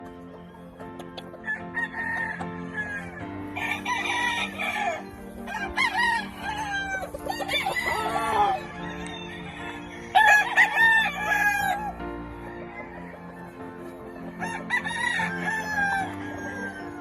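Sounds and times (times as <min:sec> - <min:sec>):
background music: 0:00.0 - 0:17.0
roosters crowing: 0:01.4 - 0:17.0.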